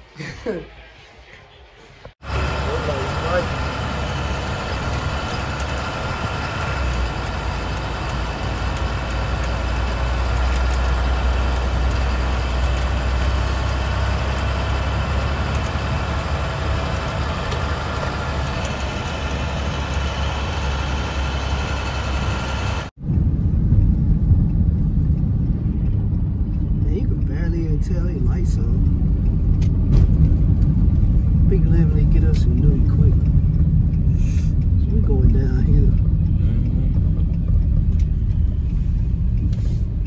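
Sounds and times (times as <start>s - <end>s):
road rumble of car: 2.0s - 40.0s
car engine hum: 2.1s - 40.0s.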